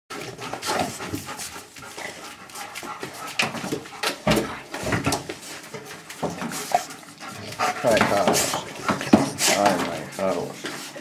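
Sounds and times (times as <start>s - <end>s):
dog breathing and snuffling: 0.1s - 11.0s.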